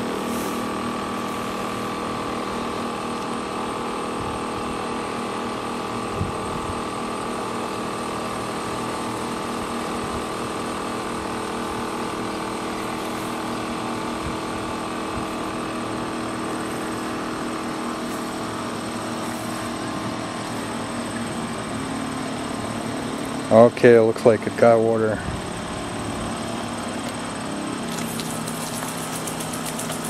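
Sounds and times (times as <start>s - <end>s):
electric water pump humming: 0.0s - 30.0s.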